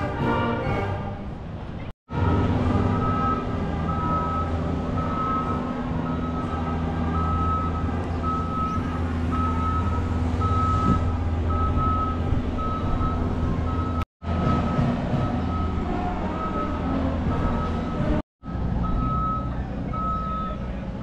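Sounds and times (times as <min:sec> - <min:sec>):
engine humming: 0:00.0 - 0:21.0
reversing alarm beeping: 0:02.7 - 0:18.2, 0:18.8 - 0:20.8.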